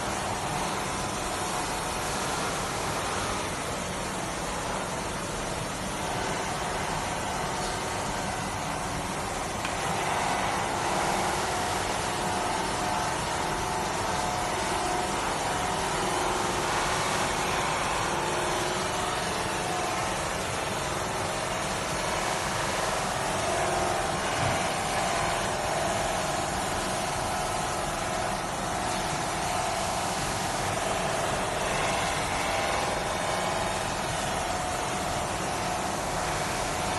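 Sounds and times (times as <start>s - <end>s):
polishing machine whirring hum: 0.0s - 36.9s.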